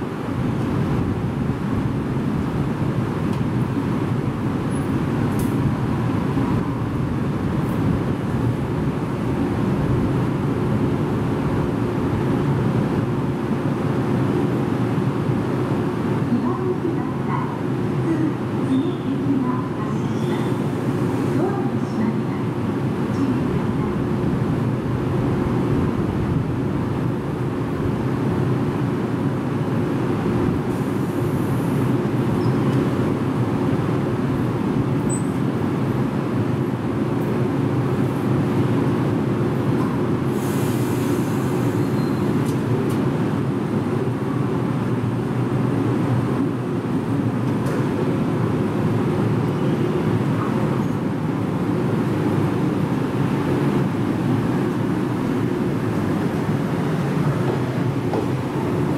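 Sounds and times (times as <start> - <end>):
electric train humming: 0.0 - 58.9.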